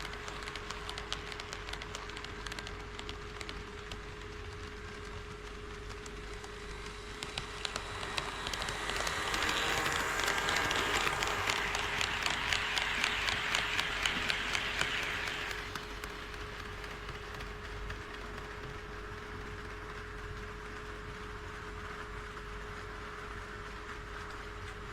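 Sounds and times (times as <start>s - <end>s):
wheels clicking over rail joints: 0.0s - 21.0s
steady hum: 0.0s - 22.6s
model train running past: 0.0s - 24.9s.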